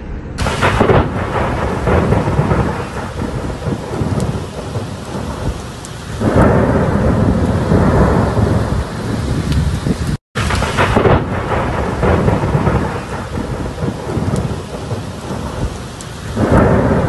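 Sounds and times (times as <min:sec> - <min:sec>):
deep rumble: 0:00.0 - 0:14.5
steady heavy rain: 0:00.4 - 0:17.0.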